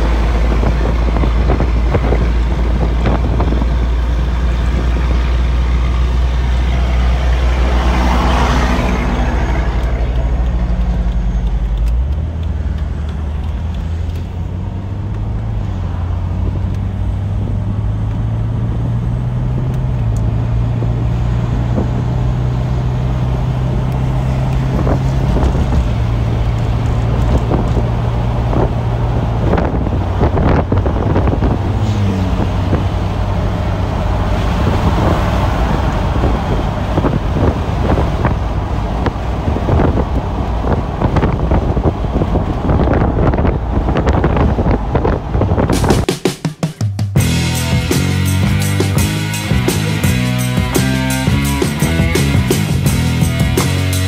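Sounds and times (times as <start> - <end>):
car engine running: 0.0 - 54.0
tyre and wind noise: 0.0 - 54.0.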